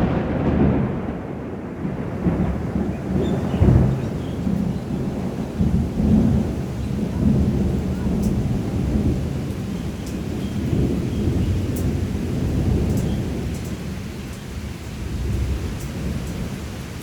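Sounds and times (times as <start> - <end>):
steady rain falling: 0.0 - 17.0
thunder rumbling: 0.0 - 17.0.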